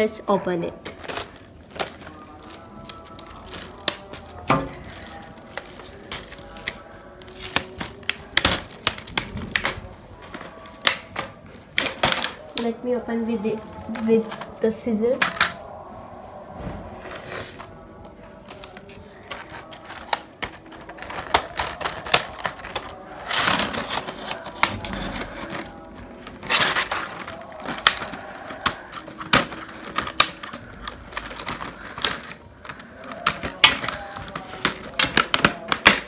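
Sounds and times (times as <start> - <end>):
plastic packaging crackling: 0.7 - 15.9, 17.6 - 36.0.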